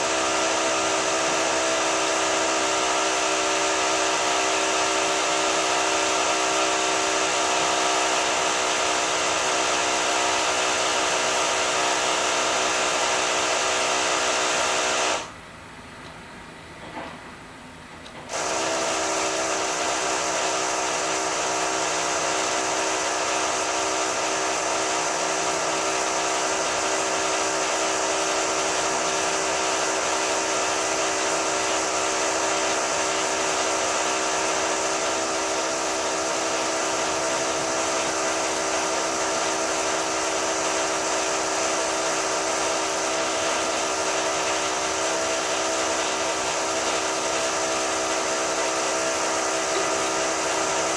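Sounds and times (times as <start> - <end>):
high-pitched power drill: 0.0 - 15.3, 18.3 - 50.9.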